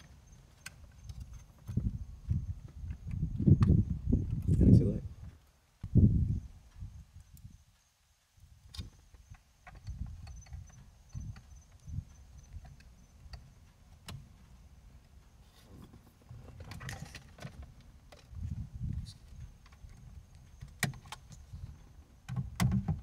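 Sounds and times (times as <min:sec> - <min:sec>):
handling clicks and rustling: 0:00.0 - 0:04.6, 0:08.7 - 0:23.0.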